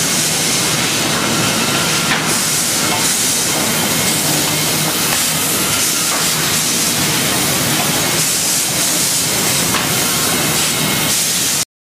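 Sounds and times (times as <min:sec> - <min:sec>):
sawmill machinery hissing: 0:00.0 - 0:11.6.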